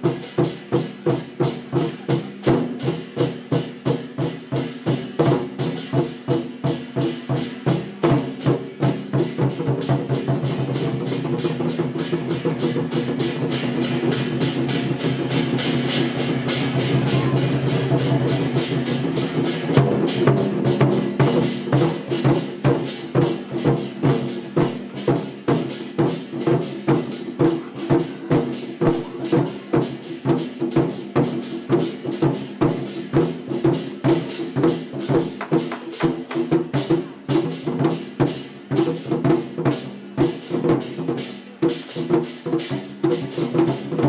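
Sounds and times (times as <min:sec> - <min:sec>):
war drums beating fast rhythm: 0:00.0 - 0:44.0.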